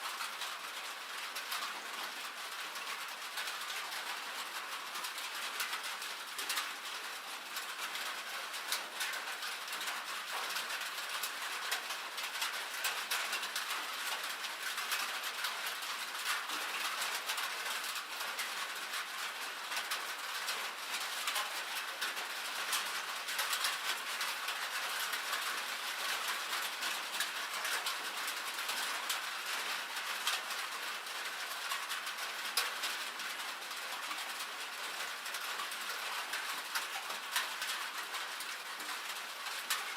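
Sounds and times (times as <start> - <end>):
rain on a metal roof: 0.0 - 39.9
hailstones ticking on sheet metal: 0.1 - 39.9.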